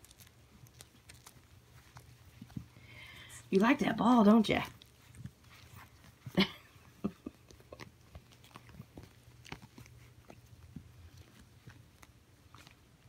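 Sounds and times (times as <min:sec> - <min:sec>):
puppies chewing plush toys: 0:00.0 - 0:13.0.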